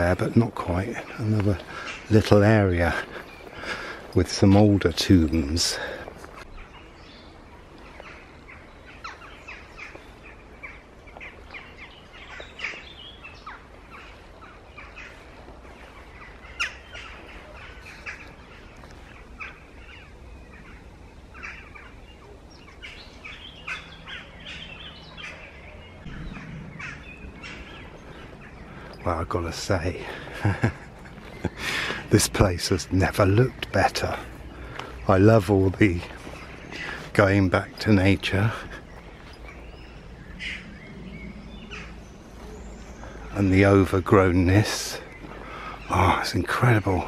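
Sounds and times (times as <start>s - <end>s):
faint outdoor background: 0.0s - 47.0s
songbirds chirping and singing: 0.0s - 47.0s.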